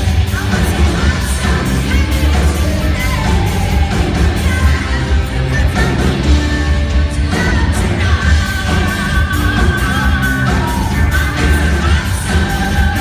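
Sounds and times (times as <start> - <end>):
live band playing loudly: 0.0 - 13.0
woman singing into microphone: 0.3 - 13.0.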